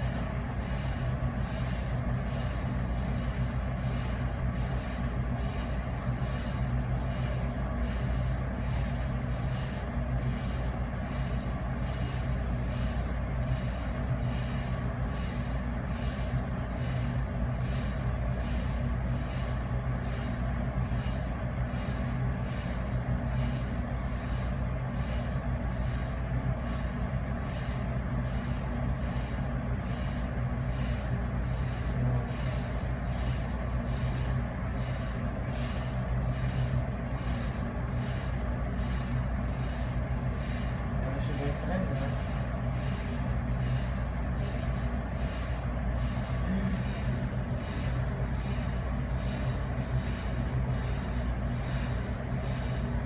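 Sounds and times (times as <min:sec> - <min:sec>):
low rumble and hum: 0:00.0 - 0:53.0.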